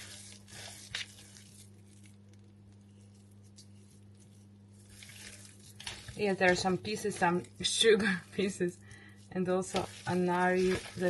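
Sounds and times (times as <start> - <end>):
hands kneading soft dough: 0.0 - 11.0.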